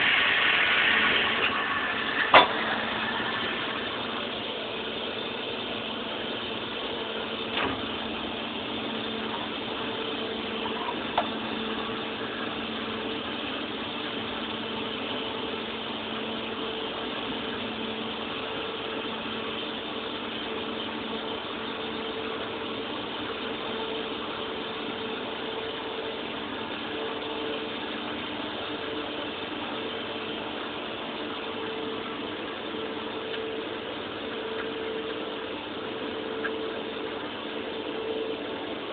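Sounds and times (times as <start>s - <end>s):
machine humming and hissing: 0.0s - 38.9s.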